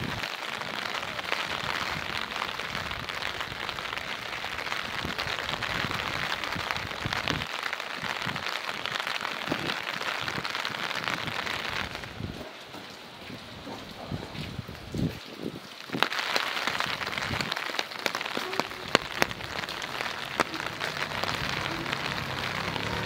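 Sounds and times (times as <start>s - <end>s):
steady rain patter: 0.0s - 23.0s.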